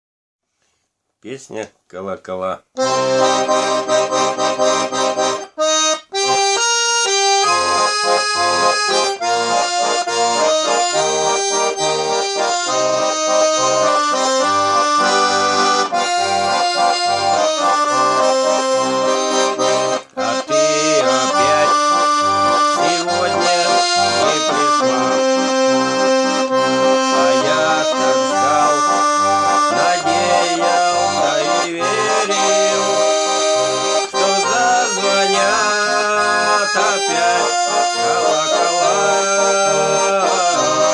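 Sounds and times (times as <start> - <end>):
button accordion playing: 2.8 - 40.9.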